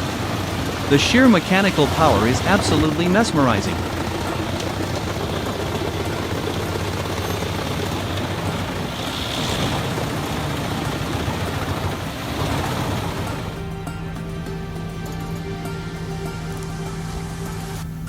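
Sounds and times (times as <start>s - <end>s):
wood chipper engine drone: 0.0s - 18.0s.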